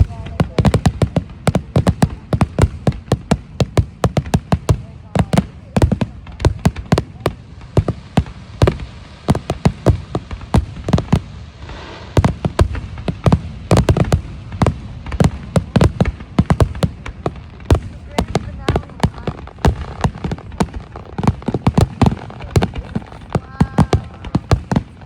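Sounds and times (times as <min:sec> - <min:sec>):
fireworks banging: 0:00.0 - 0:25.0
fireworks crackling: 0:00.0 - 0:25.0.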